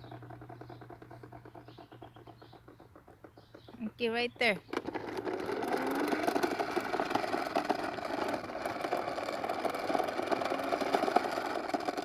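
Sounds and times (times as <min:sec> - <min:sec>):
rapid plastic rattle: 0:00.0 - 0:12.0
toy lawnmower motor whir: 0:00.0 - 0:12.0.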